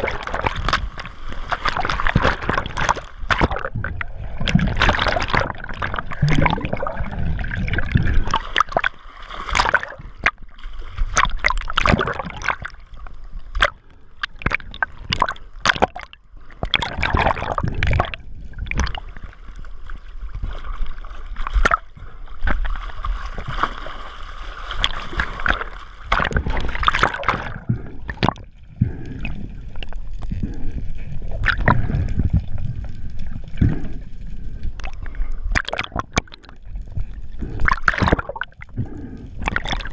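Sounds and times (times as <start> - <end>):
water splashing and gurgling: 0.0 - 39.9.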